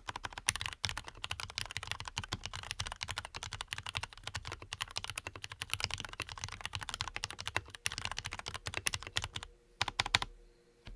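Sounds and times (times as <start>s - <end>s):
fast typing on mechanical keyboard: 0.0s - 10.3s.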